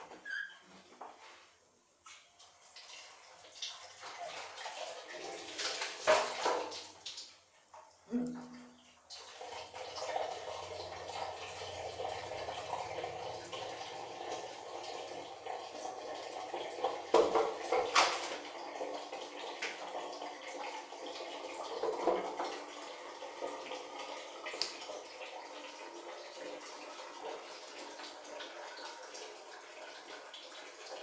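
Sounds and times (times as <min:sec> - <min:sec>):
water running: 0:02.0 - 0:31.0.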